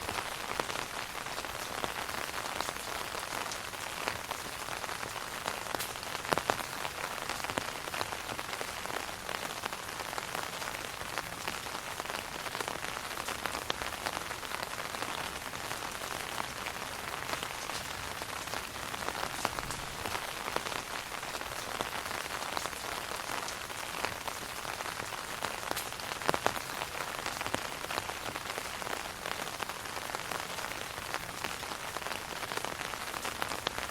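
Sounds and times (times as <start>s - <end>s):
rain falling on an umbrella: 0.0s - 33.9s.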